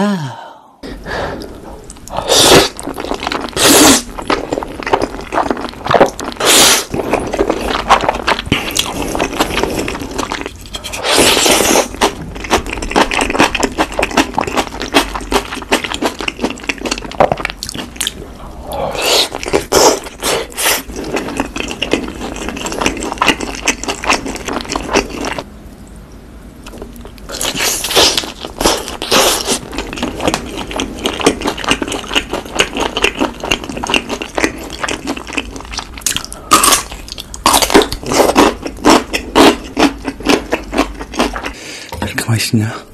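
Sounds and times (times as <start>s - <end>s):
chewing and slurping noodles: 1.4s - 25.4s, 26.6s - 41.8s.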